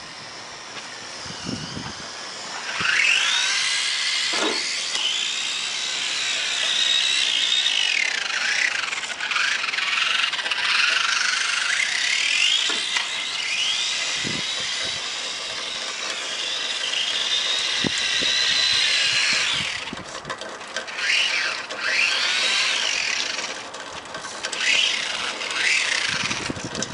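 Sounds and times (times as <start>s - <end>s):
toy truck electric motor whining: 0.0s - 26.9s.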